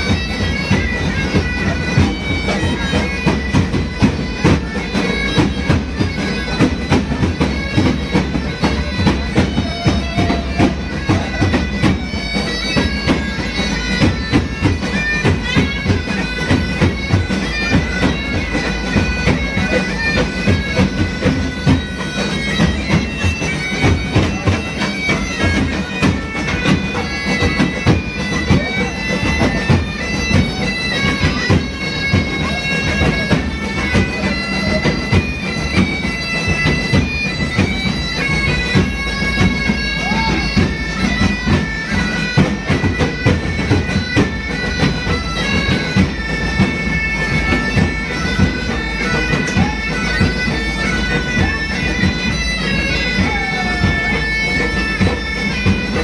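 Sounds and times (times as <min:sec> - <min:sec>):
bagpipes playing a tune: 0:00.0 - 0:56.0
drum beat: 0:00.0 - 0:56.0.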